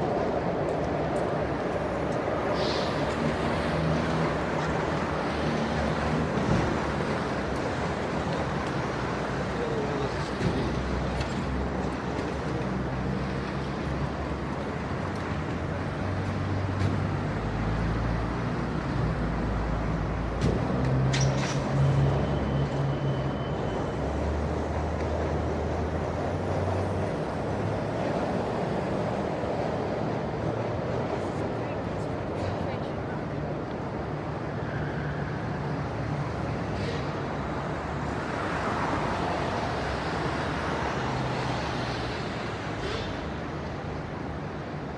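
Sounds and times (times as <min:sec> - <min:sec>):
passing vehicles rumble: 0:00.0 - 0:44.9.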